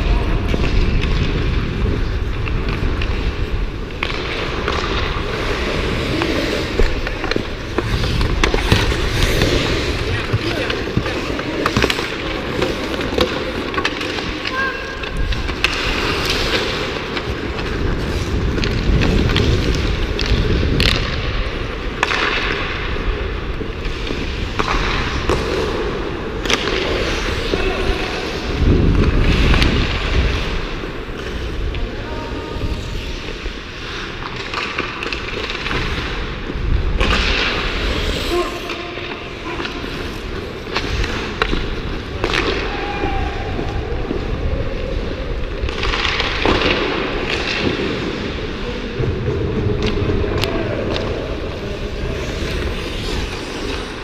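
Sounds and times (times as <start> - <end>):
rushing noise on microphone: 0.0 - 22.0, 22.6 - 34.5, 35.1 - 54.0
skate blades scraping on ice: 0.0 - 54.0
sticks and puck clacking: 0.0 - 54.0.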